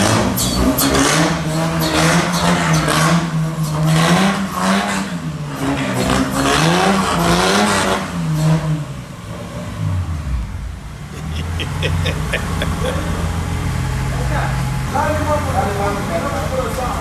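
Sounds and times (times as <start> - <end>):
engine revving and idling: 0.0 - 17.0.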